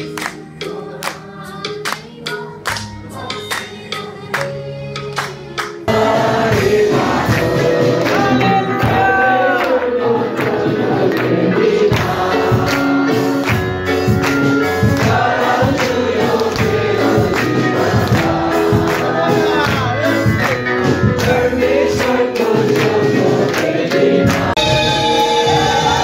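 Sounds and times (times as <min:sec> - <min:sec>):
choir singing gospel with instruments: 0:00.0 - 0:26.0.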